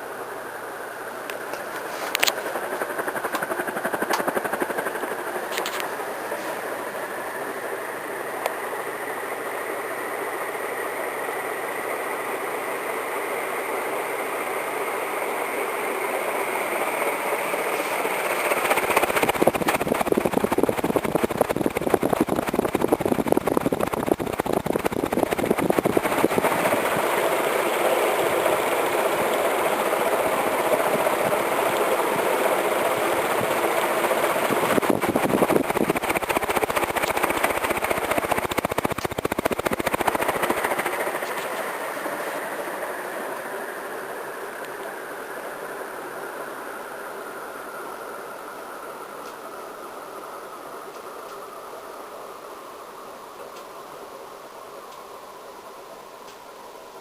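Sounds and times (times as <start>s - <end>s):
ceiling fan air rush: 0.0s - 57.0s
fan motor whine: 0.0s - 57.0s.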